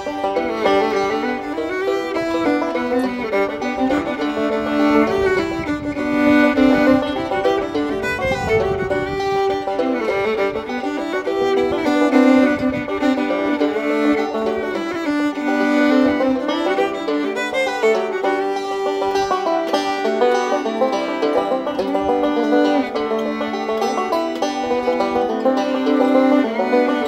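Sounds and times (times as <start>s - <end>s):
fiddle tune: 0.0s - 27.0s.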